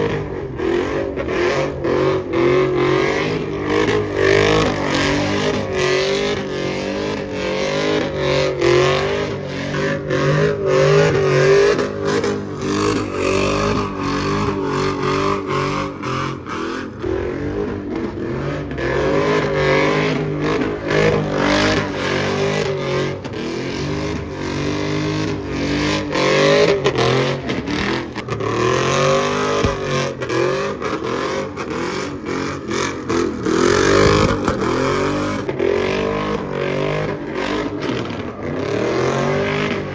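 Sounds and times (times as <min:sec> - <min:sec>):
truck engine revving hard: 0:00.0 - 0:39.9.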